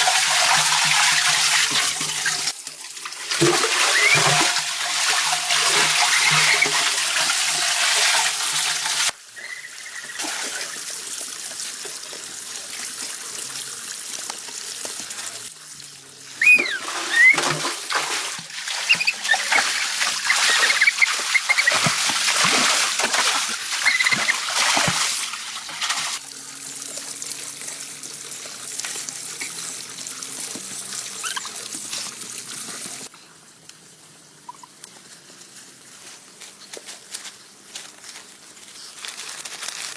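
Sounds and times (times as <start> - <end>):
running water trickling: 0.0 - 39.0.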